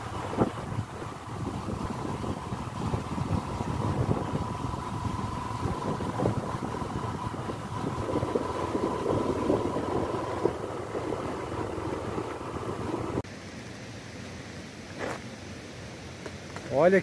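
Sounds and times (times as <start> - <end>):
thin steady whine: 0.0 - 16.0
vehicle engine and road rumble: 0.0 - 17.0.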